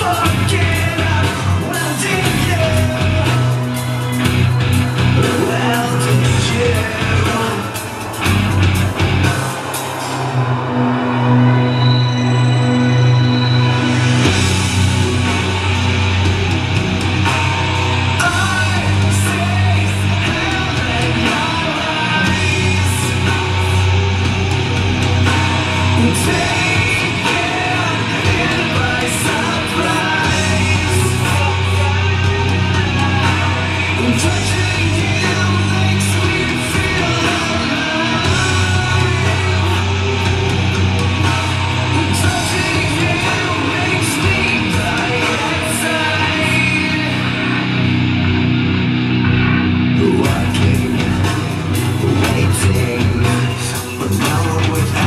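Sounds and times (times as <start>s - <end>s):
heavy rock song through speakers: 0.0s - 55.0s.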